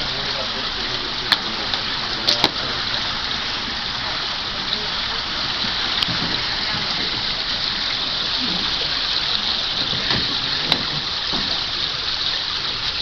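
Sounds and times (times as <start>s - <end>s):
rushing splashing water: 0.0s - 13.0s.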